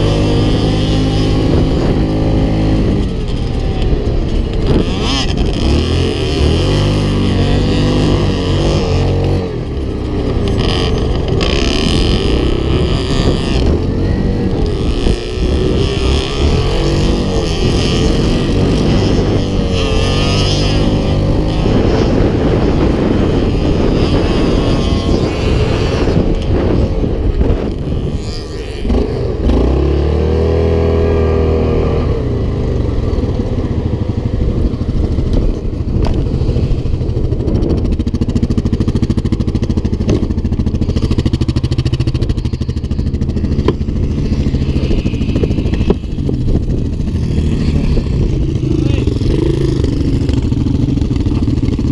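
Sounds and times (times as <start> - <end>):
quad engine revving: 0.0 - 51.9
wind on microphone: 0.0 - 51.9.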